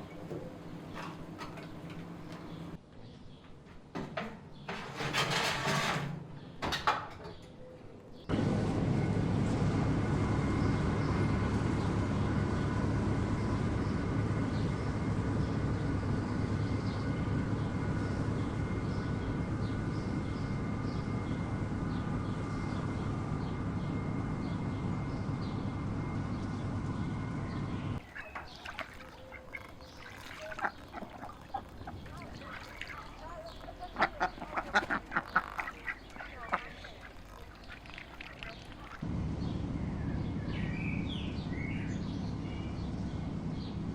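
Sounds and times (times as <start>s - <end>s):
steady mechanical hum: 0.0s - 2.8s, 8.0s - 43.9s.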